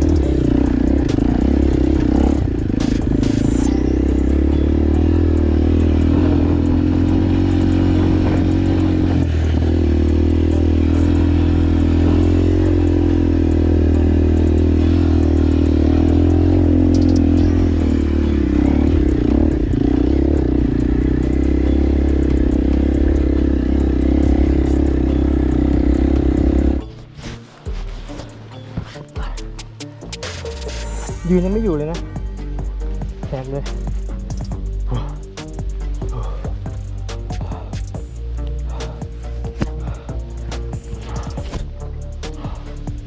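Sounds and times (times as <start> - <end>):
motorcycle engine droning: 0.0 - 27.4, 31.0 - 43.0.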